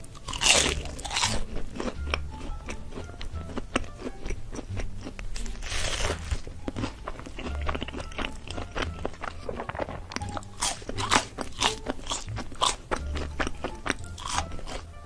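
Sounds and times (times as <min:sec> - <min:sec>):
crunchy food chewing: 0:00.0 - 0:15.0.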